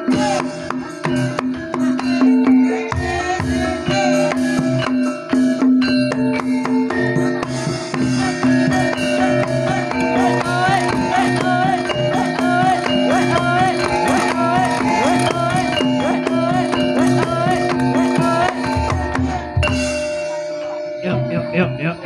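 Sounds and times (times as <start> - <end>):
quick drumming: 0.0 - 20.1
struck metal percussion: 0.0 - 21.9
steady held tones: 0.0 - 22.0
wavering melody line: 0.0 - 22.0.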